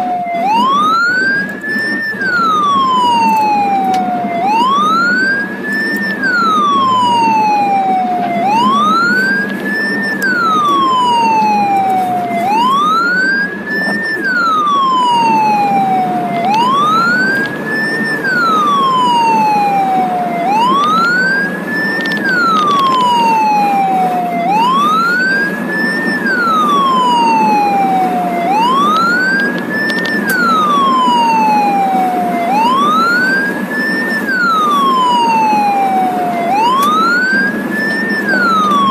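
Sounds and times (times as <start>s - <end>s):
ambulance siren wailing: 0.0s - 38.9s
engine and road noise: 0.0s - 38.9s.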